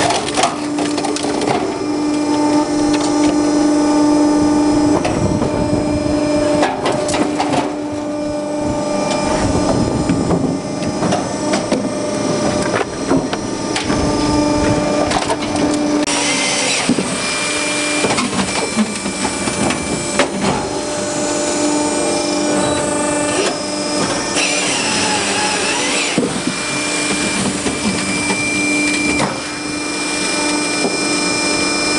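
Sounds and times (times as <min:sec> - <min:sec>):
firewood splitter machine hum: 0:00.0 - 0:31.9.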